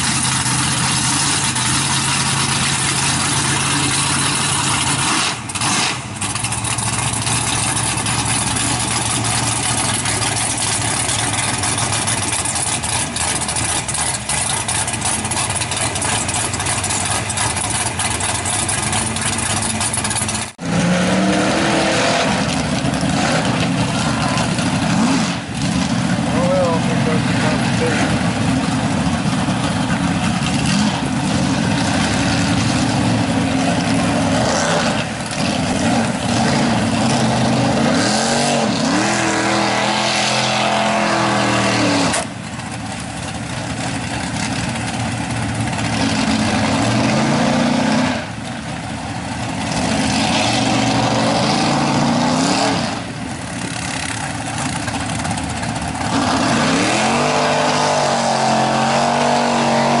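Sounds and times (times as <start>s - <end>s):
truck engine revving hard: 0.0s - 42.4s, 43.8s - 60.0s.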